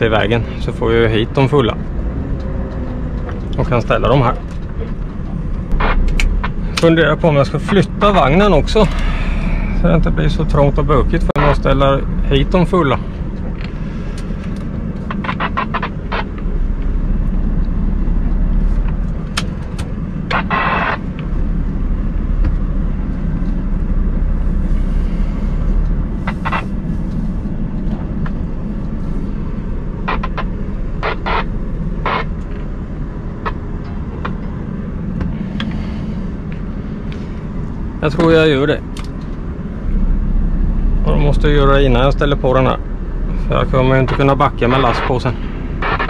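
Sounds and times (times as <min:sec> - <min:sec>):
diesel truck engine running: 0:00.0 - 0:46.0.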